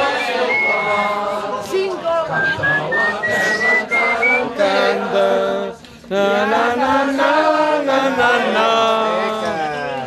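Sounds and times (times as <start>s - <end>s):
group of people singing: 0.0s - 10.0s.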